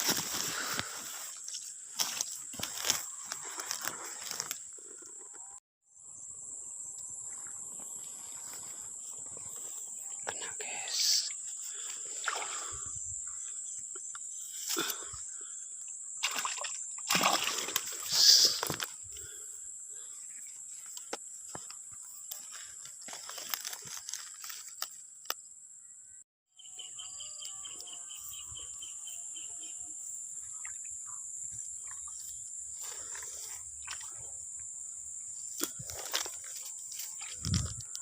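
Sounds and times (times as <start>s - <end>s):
high-pitched insect drone: 0.6s - 24.5s, 26.6s - 38.0s.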